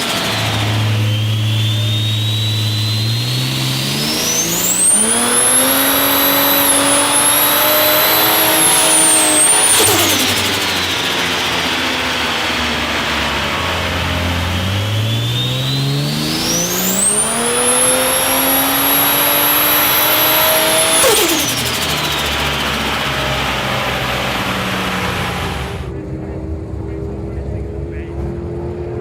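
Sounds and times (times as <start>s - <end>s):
turbo whine: 0.0s - 28.2s
car engine revving: 0.0s - 29.0s.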